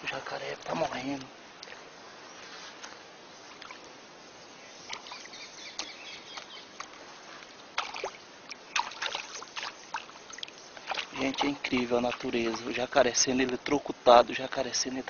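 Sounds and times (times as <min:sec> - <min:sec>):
river water hissing: 0:00.0 - 0:15.0.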